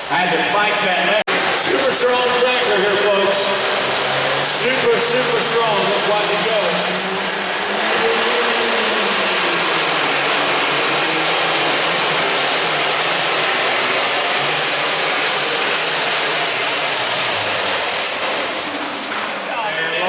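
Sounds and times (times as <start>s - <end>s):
engine running at full power: 0.0s - 20.0s.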